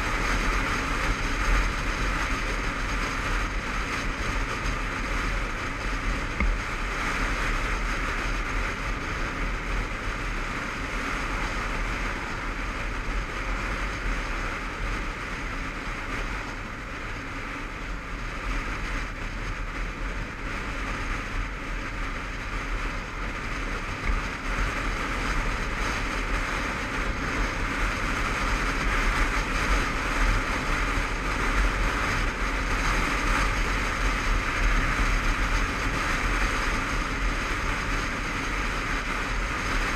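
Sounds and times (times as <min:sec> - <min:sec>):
motorcycle engine at road speed: 0:00.0 - 0:39.9
road noise: 0:00.0 - 0:39.9
wind noise: 0:00.0 - 0:39.9.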